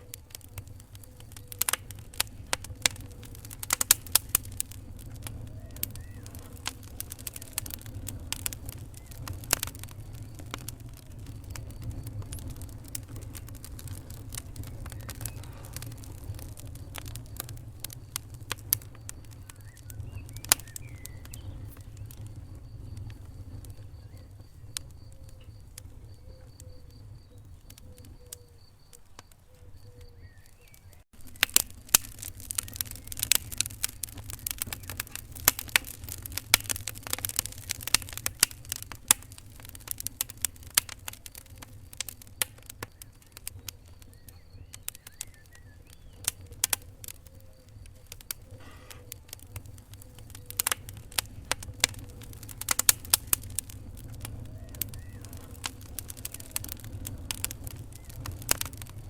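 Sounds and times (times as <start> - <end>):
low rumble of flame: 0.0 - 59.0
wood fire crackling: 0.0 - 59.0.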